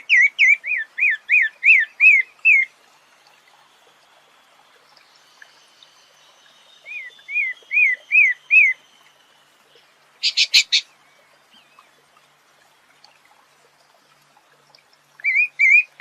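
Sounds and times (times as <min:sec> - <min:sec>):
songbird singing: 0:00.0 - 0:13.4, 0:14.2 - 0:16.0.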